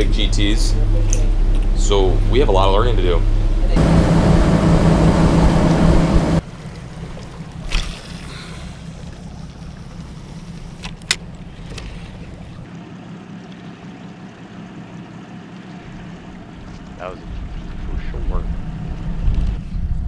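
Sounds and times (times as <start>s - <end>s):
boat engine running: 0.0s - 20.0s
rush of boat wake: 0.0s - 20.0s.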